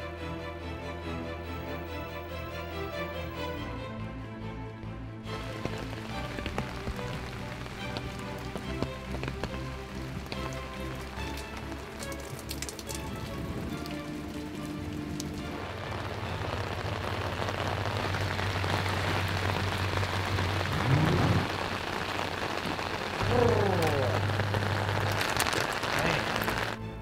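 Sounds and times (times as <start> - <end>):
background music: 0.0 - 27.0
steady rain falling: 1.5 - 3.7, 5.2 - 27.0.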